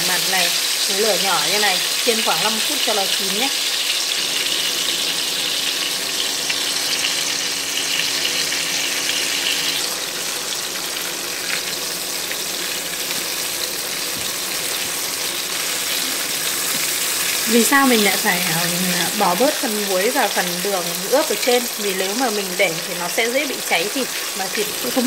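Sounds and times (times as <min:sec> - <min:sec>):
pork frying in oil: 0:00.0 - 0:25.0.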